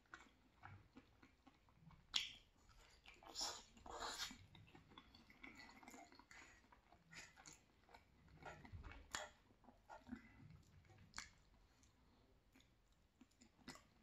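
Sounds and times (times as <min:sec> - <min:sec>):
chewing pasta: 0:00.0 - 0:14.0.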